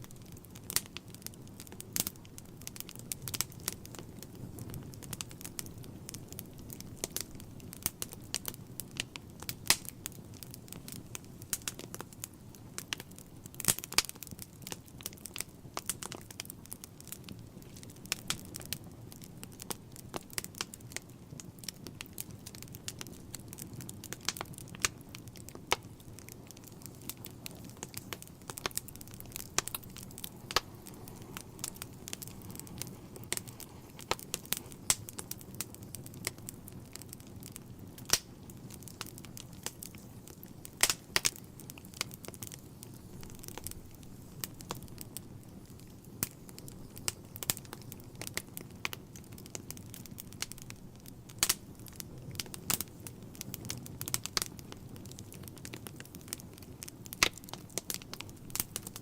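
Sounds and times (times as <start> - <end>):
logs crackling and popping: 0.0 - 59.0
low rumble of flames: 0.0 - 59.0.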